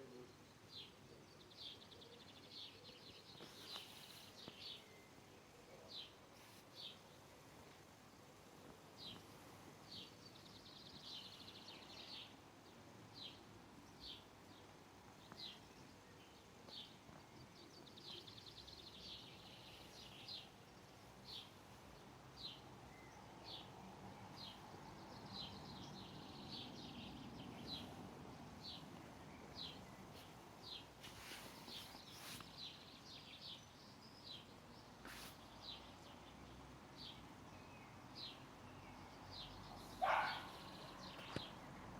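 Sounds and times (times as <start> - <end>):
bird chirping: 0.0 - 7.8, 9.0 - 41.9
low background hiss: 0.0 - 41.9.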